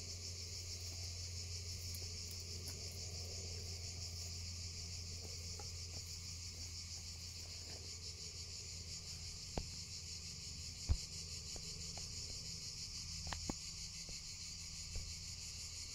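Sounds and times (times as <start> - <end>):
insects chirring: 0.0 - 15.9.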